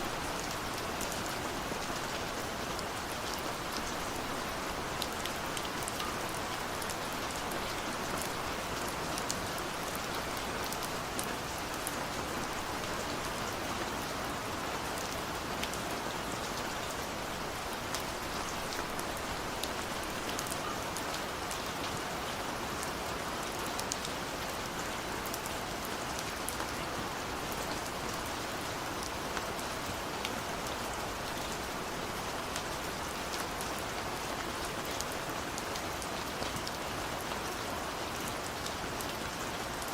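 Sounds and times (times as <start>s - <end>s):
rain ticking on a window: 0.0s - 39.9s.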